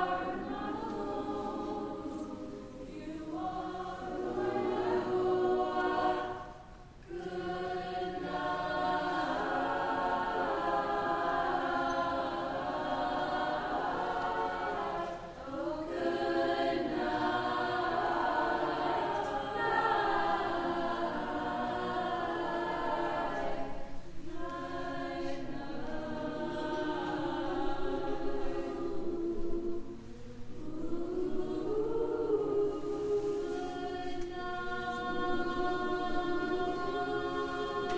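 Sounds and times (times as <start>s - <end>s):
choir singing held chords: 0.0s - 37.9s.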